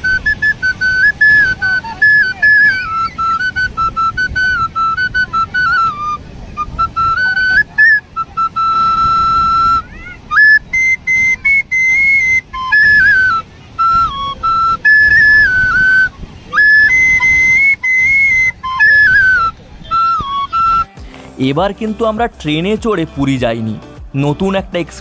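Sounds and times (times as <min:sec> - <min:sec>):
sea surf: 0:00.0 - 0:21.6
bamboo flute melody: 0:00.0 - 0:23.3.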